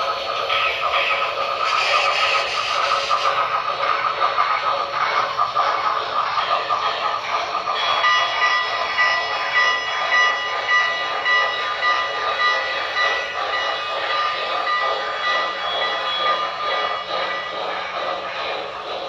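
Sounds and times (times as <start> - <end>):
model train rolling on track: 0.0 - 19.0
rhythmic pulsing: 0.0 - 19.0.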